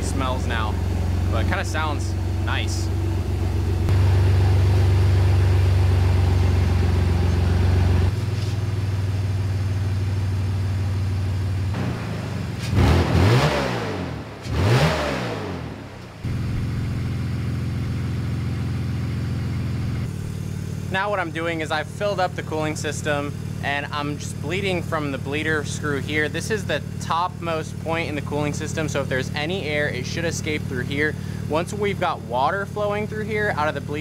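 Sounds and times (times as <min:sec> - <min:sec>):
engine revving: 0:00.0 - 0:08.6, 0:11.6 - 0:34.0
car engine idling with loud exhaust: 0:00.0 - 0:34.0.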